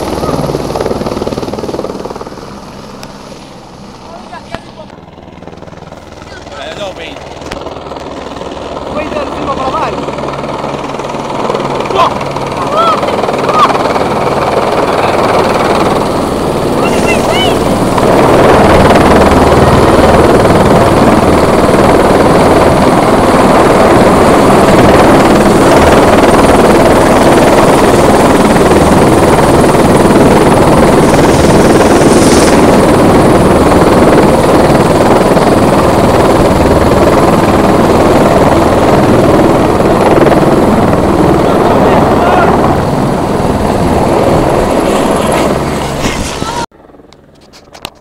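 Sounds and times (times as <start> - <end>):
helicopter hovering: 0.0 - 48.0.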